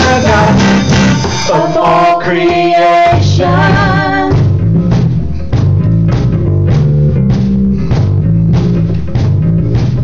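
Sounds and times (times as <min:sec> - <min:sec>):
bass guitar low notes: 0:00.0 - 0:10.0
drum kit steady beat: 0:00.0 - 0:10.0
guitar: 0:00.0 - 0:10.0.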